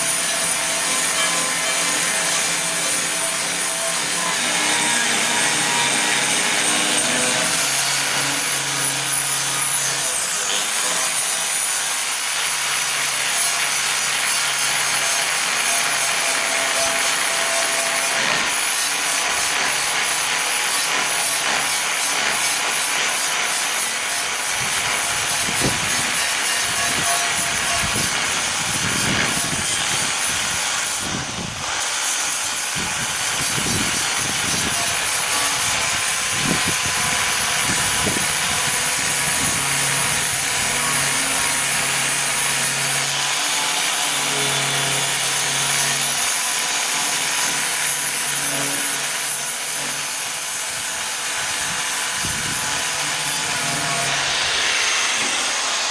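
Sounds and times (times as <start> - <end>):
angle grinder grinding metal: 0.0 - 55.9.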